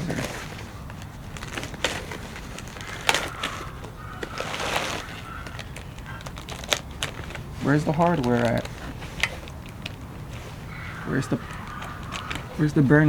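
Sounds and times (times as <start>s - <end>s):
packaging rustling: 0.0s - 13.0s
parts knocking and clacking: 0.0s - 13.0s.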